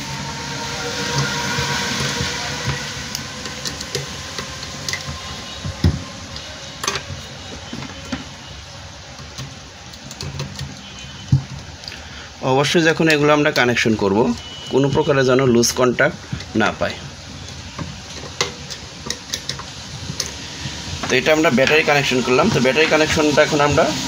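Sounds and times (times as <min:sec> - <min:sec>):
steady hum and hiss: 0:00.0 - 0:24.0.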